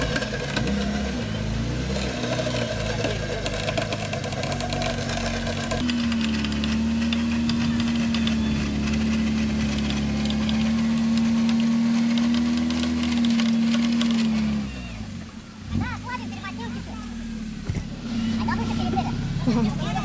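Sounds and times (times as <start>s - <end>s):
engine idling: 0.0s - 20.0s
winch whining: 0.0s - 20.0s.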